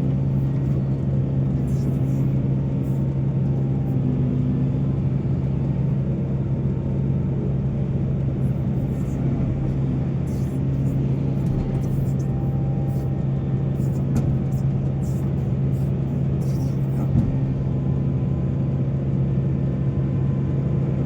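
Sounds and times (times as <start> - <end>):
heavy diesel engine droning: 0.0 - 18.6.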